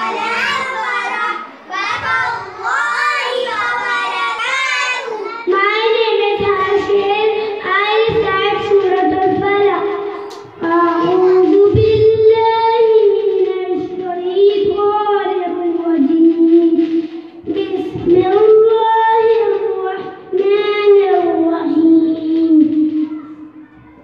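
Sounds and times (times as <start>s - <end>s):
boy chanting melodic recitation: 0.0s - 24.0s.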